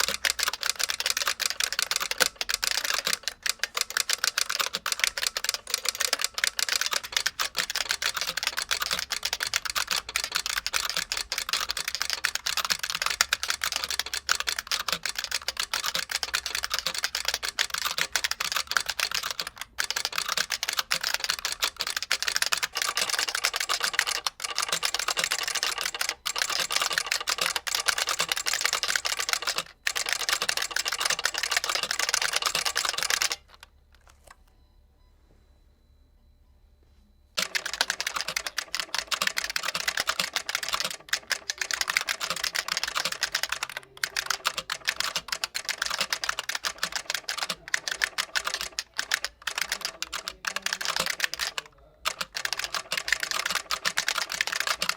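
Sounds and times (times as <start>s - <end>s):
fast mechanical keyboard typing: 0.0s - 34.4s, 37.4s - 54.9s.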